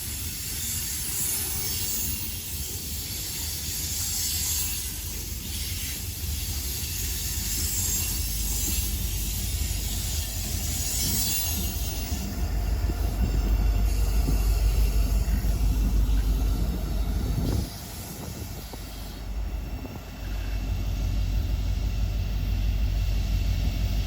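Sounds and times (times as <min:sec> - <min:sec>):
freight train rumbling past: 0:00.0 - 0:24.0
hiss: 0:00.0 - 0:24.0.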